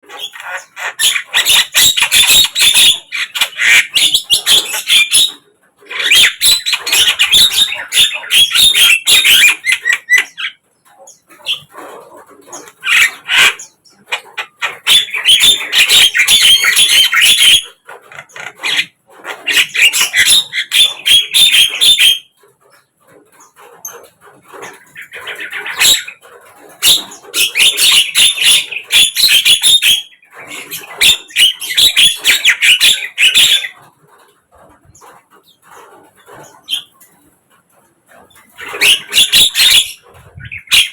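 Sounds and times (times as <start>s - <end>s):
bird chattering calls: 0.0s - 40.9s.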